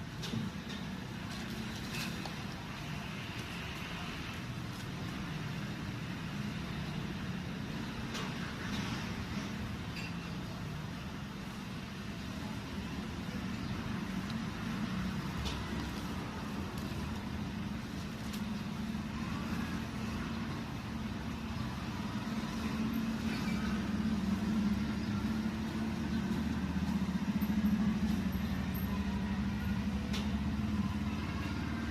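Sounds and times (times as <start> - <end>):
traffic engine rumble: 0.0 - 31.9.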